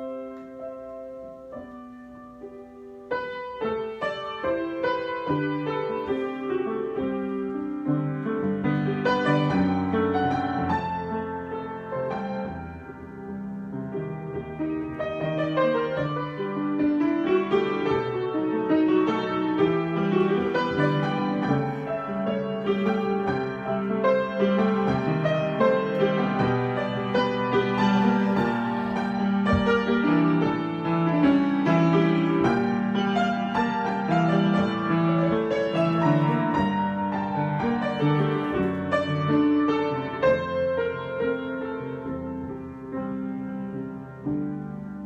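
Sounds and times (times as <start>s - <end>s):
solo piano improvisation: 0.0s - 45.0s.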